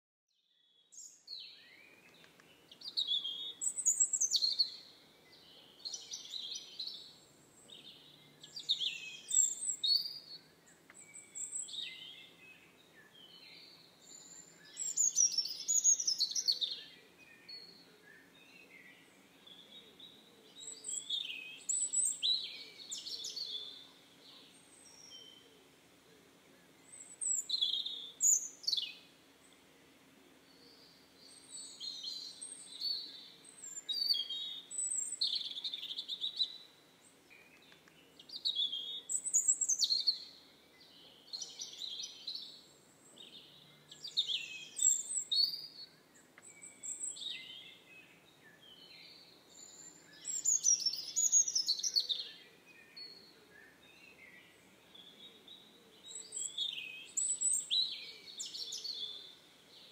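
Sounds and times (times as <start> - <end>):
songbirds chirping: 0.3 - 59.9.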